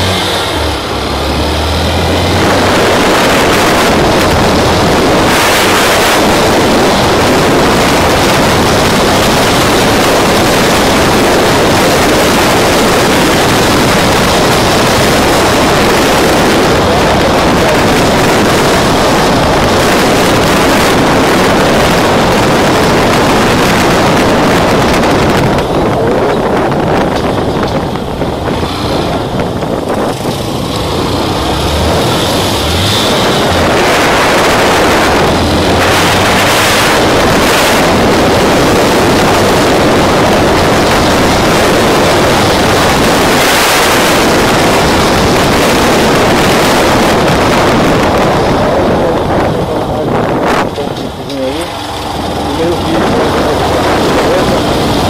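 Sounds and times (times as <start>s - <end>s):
motorcycle engine hum: 0.0s - 55.0s
wind on microphone: 0.0s - 55.0s.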